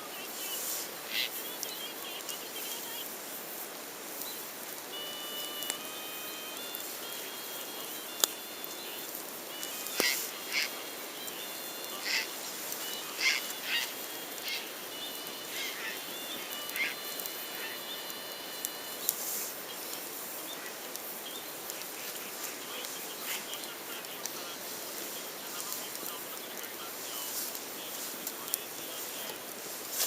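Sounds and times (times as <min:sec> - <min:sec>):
campfire hissing and crackling: 0:00.0 - 0:30.0
thin high whistling tones: 0:04.2 - 0:30.0.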